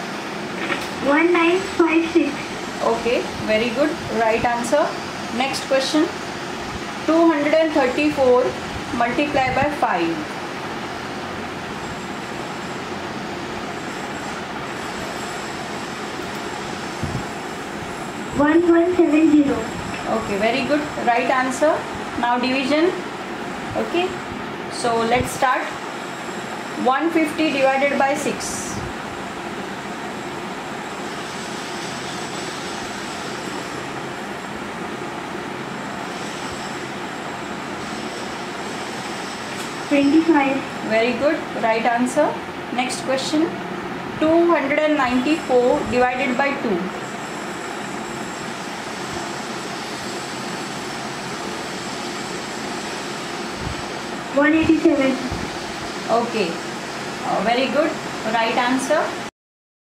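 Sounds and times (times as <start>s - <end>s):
constant hiss and rumble: 0.0s - 59.3s.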